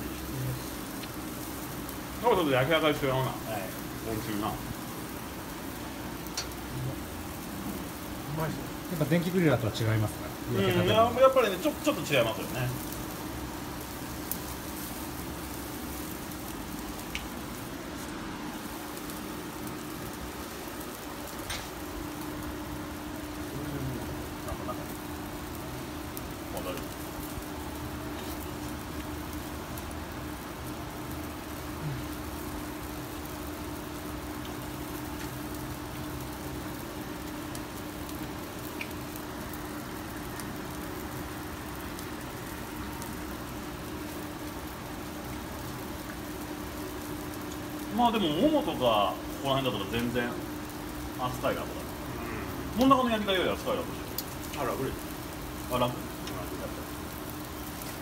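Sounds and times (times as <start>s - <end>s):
faint crackles and ticks: 0.0s - 58.0s
gas grill hissing: 0.0s - 58.0s.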